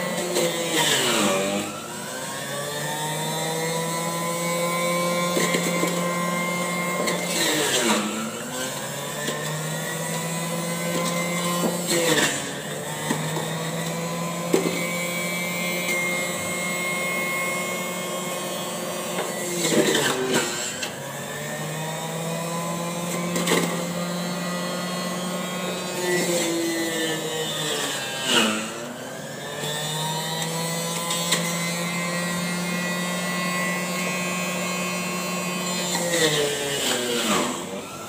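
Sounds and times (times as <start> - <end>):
juicer motor grinding whir: 0.0 - 38.0.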